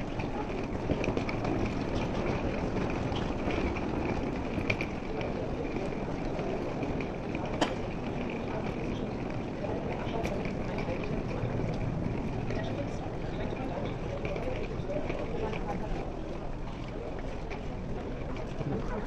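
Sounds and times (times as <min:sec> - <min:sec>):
suitcase wheels rolling on stone: 0:00.0 - 0:19.0.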